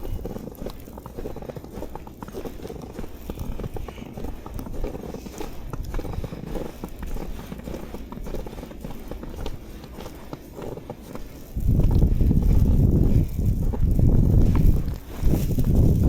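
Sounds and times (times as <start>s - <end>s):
footsteps in snow: 0.0s - 16.0s.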